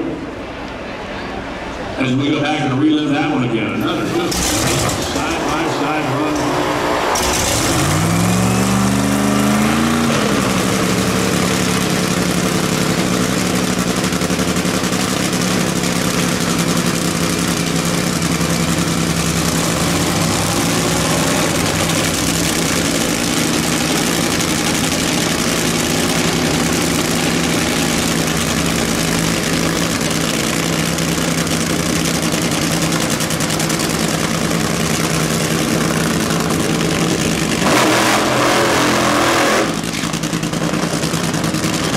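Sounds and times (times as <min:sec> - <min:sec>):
race car engine starting and idling: 0:00.0 - 0:41.9.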